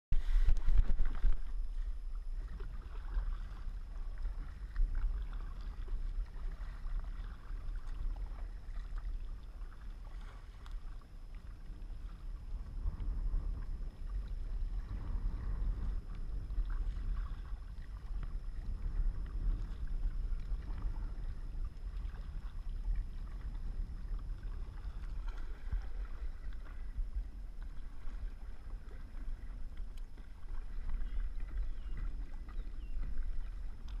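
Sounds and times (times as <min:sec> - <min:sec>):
wind rumble on microphone: 0:00.1 - 0:34.0
paddle splashing water: 0:00.2 - 0:34.0.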